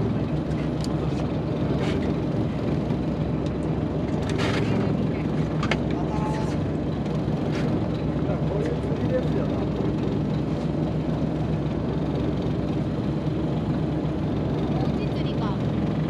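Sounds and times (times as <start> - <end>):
boat engine idling: 0.0 - 16.0.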